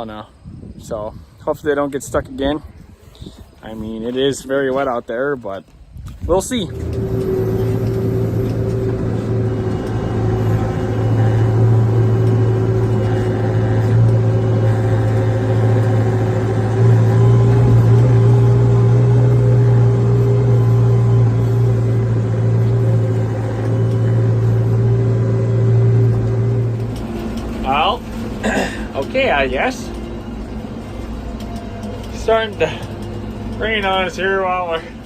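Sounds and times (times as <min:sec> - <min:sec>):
tractor engine under load: 0:03.4 - 0:35.0.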